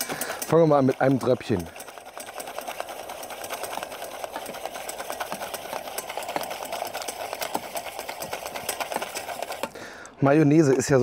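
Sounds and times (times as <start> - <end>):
whisk clicking against metal bowl: 0.0 - 9.9.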